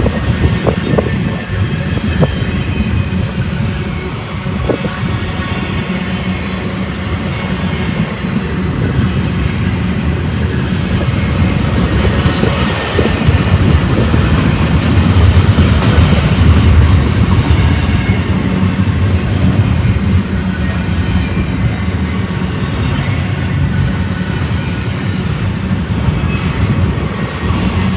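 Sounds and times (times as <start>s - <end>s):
freight train rumble: 0.0s - 27.9s
train wheels clacking on rails: 0.0s - 27.9s.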